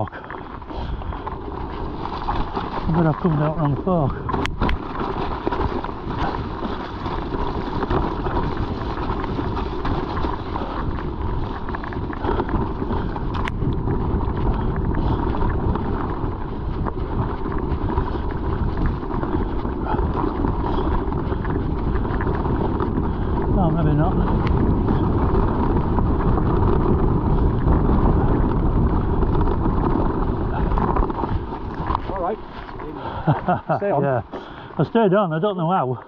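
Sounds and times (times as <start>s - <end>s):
wind rushing over microphone: 0.0s - 35.5s
bike rattles and knocks: 0.0s - 36.0s
bike tyres rumbling over rough ground: 0.0s - 36.0s.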